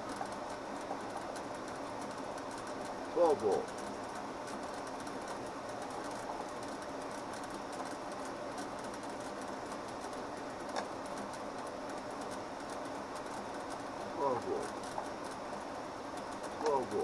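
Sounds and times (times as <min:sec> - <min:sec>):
faint rapid ticking: 0:00.0 - 0:17.0
mechanical background noise: 0:00.0 - 0:17.0.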